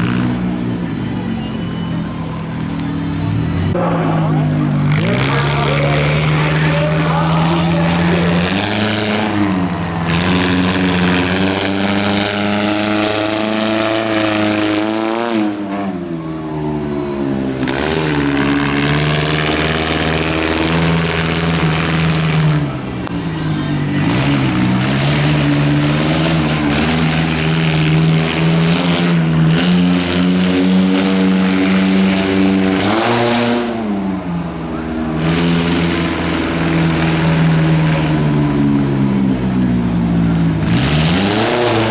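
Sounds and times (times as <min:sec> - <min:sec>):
monster truck engine revving: 0:00.0 - 0:41.9.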